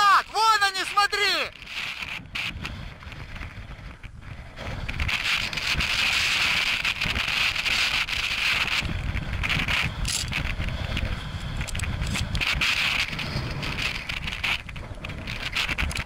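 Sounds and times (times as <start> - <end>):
rustling of dry grass and clothing: 0.0 - 16.0
wind buffeting microphone: 0.2 - 16.0.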